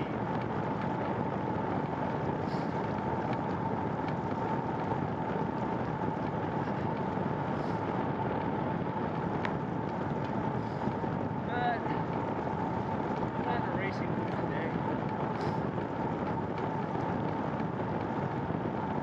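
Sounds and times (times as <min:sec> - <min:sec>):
bicycle tyres rolling on trail: 0:00.0 - 0:19.0
wind rush: 0:00.0 - 0:19.0.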